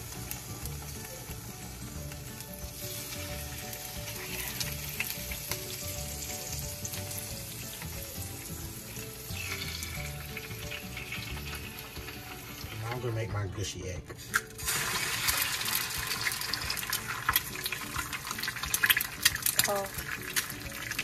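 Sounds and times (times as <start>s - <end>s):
bacon sizzling in oil: 0.0s - 13.1s, 14.2s - 21.0s.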